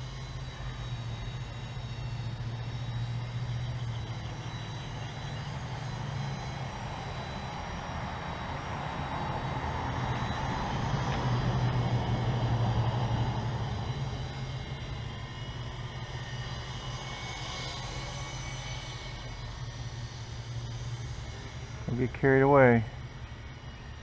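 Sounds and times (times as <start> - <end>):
helicopter rotor hum: 0.0 - 24.0
high motor whine: 0.0 - 24.0.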